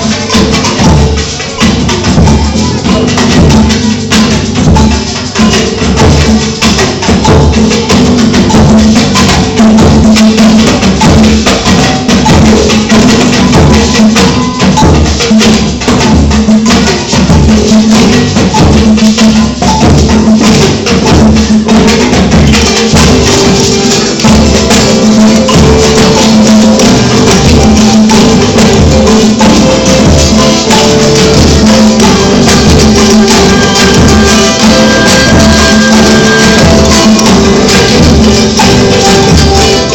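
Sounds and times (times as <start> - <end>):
shaker rattles: 0.0 - 39.9
tambourine rhythm: 0.0 - 39.9.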